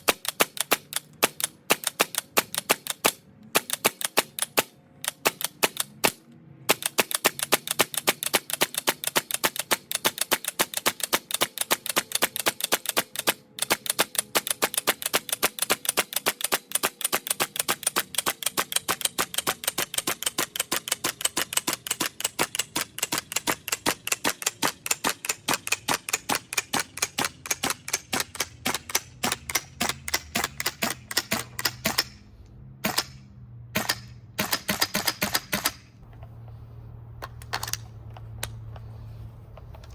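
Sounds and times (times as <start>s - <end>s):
airsoft rifle shots: 0.0s - 32.2s, 32.8s - 36.0s.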